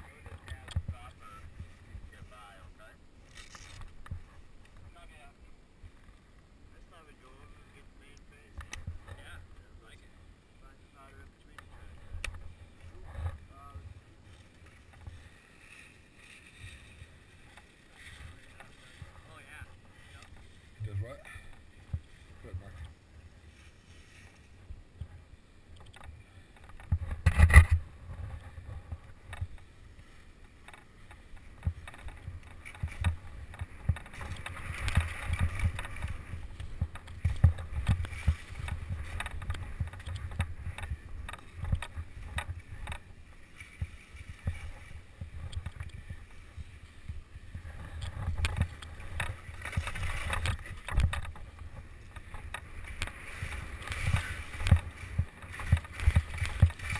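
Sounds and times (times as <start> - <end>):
wind rumble on microphone: 0.0 - 6.2, 7.0 - 56.9.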